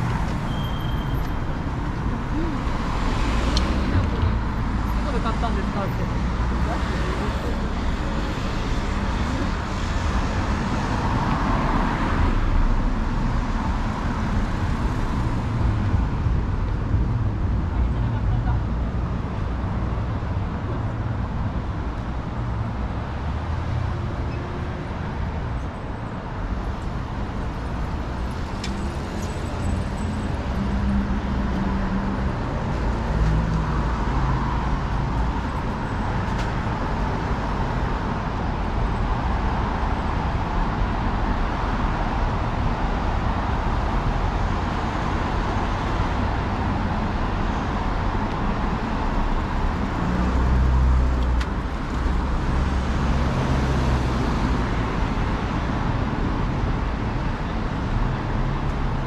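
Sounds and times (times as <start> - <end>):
cars passing: 0.0 - 59.0
rumble of engines and tyres: 0.0 - 59.0.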